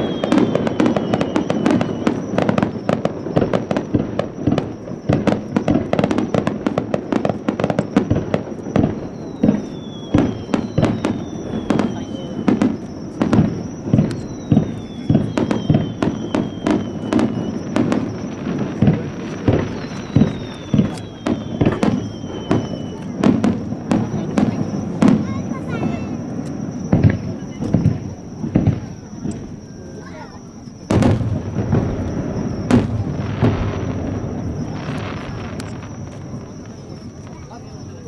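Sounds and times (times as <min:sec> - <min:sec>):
falling whistling tones: 0:00.0 - 0:06.6, 0:07.8 - 0:38.0
fireworks bursting and crackling: 0:00.0 - 0:38.0.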